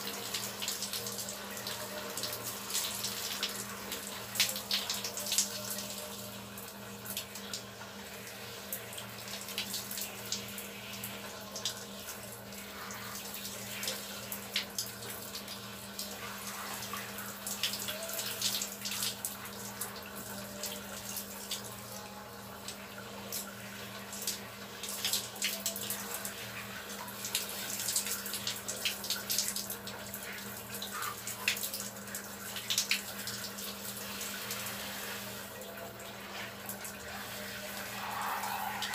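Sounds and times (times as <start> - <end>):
shower water splashing: 0.0 - 38.9.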